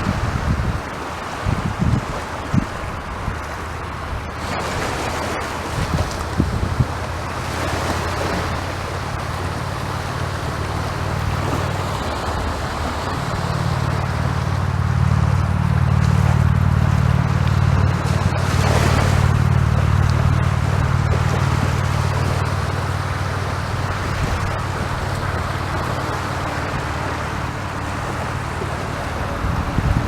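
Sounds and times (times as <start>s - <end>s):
sea waves breaking: 0.0s - 30.0s
deep low rumble: 5.4s - 30.0s.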